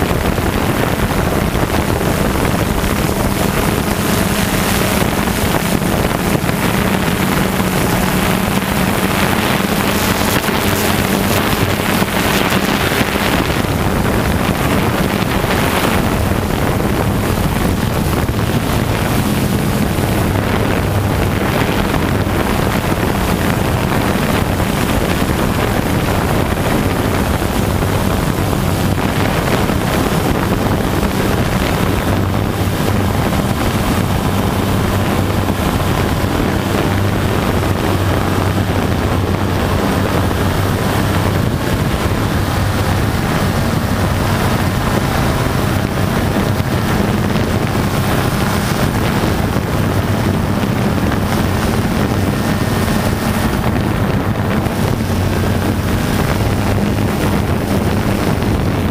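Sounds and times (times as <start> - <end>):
pile-driving rig humming: 0.0 - 58.9
wind buffeting microphone: 0.0 - 58.9.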